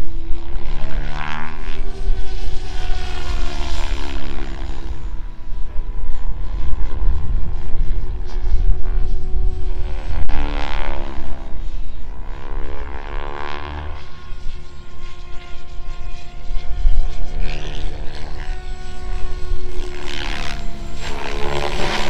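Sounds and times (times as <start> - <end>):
rc helicopter buzzing whine: 0.0 - 22.0.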